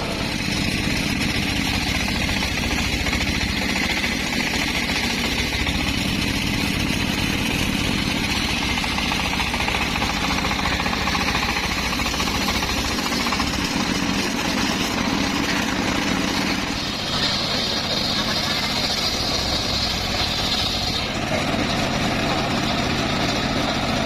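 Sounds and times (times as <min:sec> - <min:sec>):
circular sawmill running: 0:00.0 - 0:24.0.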